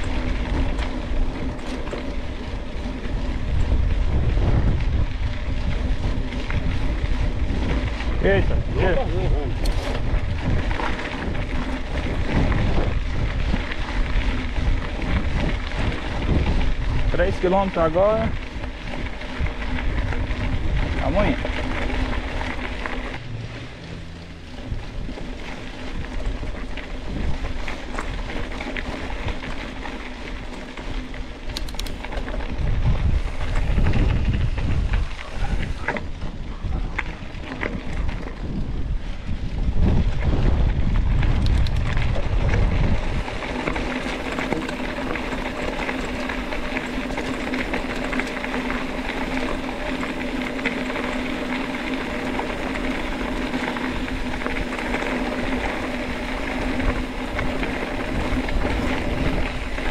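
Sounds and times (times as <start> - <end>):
bike rolling on dirt trail: 0.0 - 59.9
wind buffeting microphone: 0.0 - 59.9.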